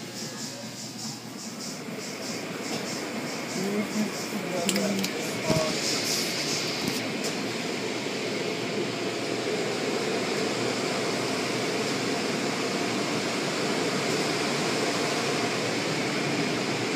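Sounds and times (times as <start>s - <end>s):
car wash water spray and brushes: 0.9s - 16.9s.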